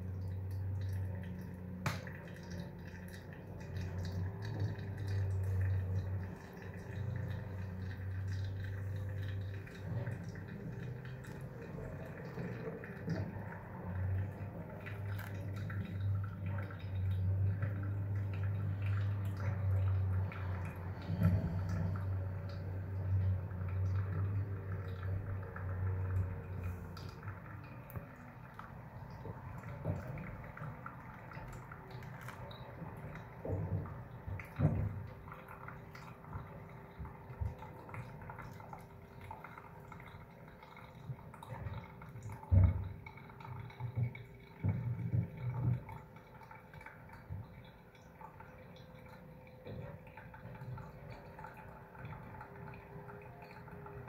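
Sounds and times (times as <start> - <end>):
coffee dripping: 0.0 - 54.0
water pouring into coffee filter: 0.0 - 54.0.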